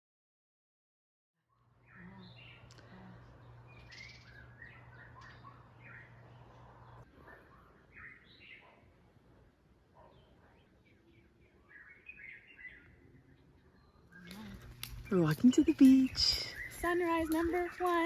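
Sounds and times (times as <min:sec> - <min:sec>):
birds chirping: 0:01.5 - 0:18.0.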